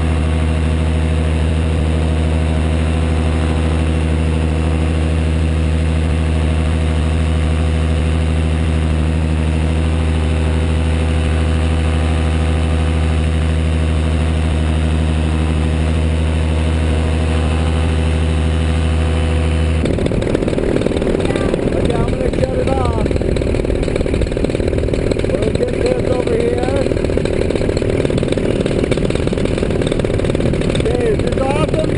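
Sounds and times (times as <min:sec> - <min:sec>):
paramotor engine drone: 0:00.0 - 0:31.9.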